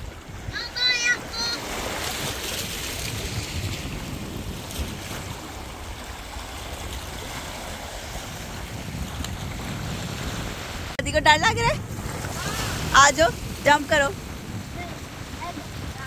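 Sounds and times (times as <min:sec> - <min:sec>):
waves washing over rocks: 0:00.0 - 0:16.0
wind rumbling on microphone: 0:00.0 - 0:16.0.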